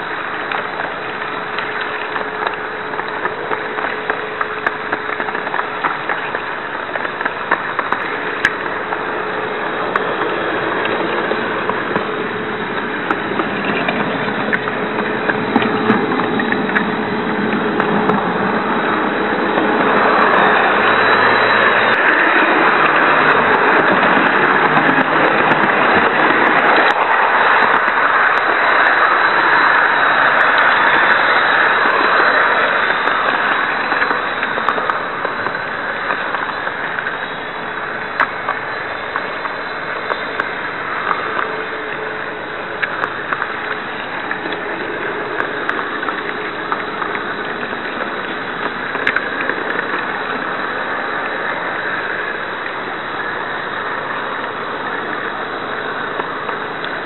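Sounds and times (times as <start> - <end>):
faint track clicks: 0.0 - 57.0
model train rushing noise: 0.0 - 57.0.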